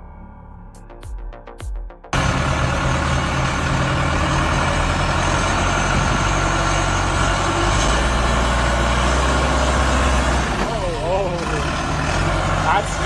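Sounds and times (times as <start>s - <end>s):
heavy vehicle engine running: 2.1s - 13.0s
broad noise: 2.2s - 13.0s.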